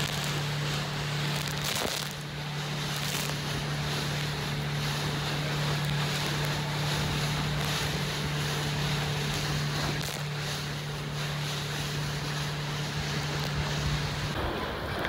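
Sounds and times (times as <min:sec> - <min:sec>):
motorboat engine humming: 0:00.0 - 0:15.0
rushing water: 0:00.0 - 0:15.0
wind on microphone: 0:00.0 - 0:15.0.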